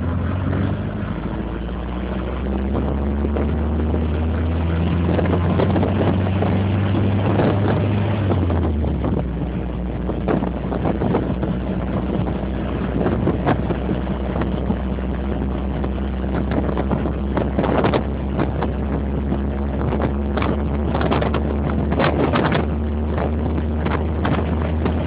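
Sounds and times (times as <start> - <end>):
car engine running: 0.0 - 25.0
wind and road noise: 0.0 - 25.0.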